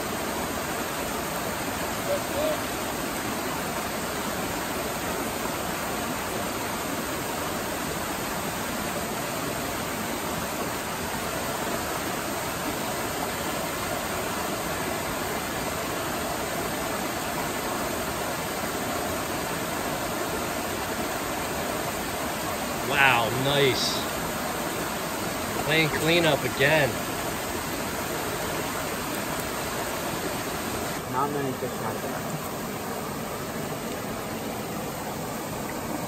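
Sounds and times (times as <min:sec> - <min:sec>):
small waterfall rushing: 0:00.0 - 0:36.0
stream tumbling over rocks: 0:00.0 - 0:36.0.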